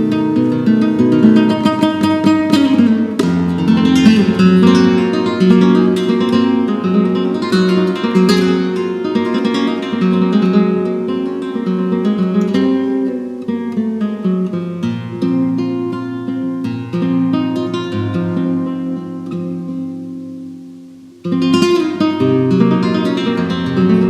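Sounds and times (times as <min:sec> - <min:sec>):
flamenco guitar playing: 0:00.0 - 0:24.0.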